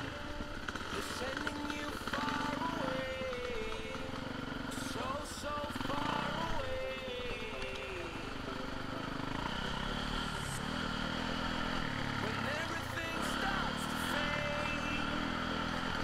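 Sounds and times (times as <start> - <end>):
dirt bike engine idling: 0.0 - 16.0.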